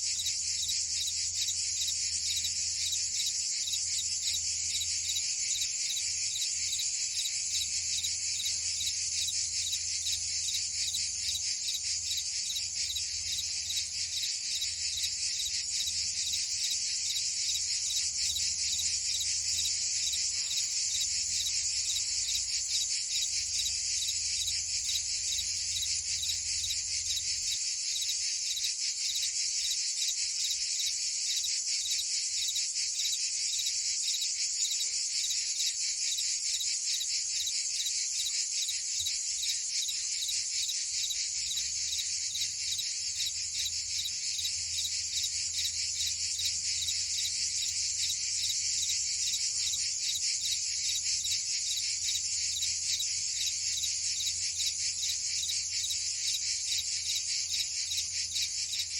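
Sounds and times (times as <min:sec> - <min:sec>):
crickets and cicadas trilling: 0:00.0 - 0:58.9.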